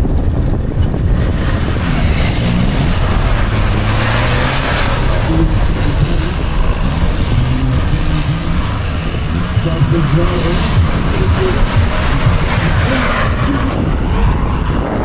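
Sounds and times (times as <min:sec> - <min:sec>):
off-road engine revving: 0:00.0 - 0:15.0
rush of noise: 0:00.0 - 0:15.0.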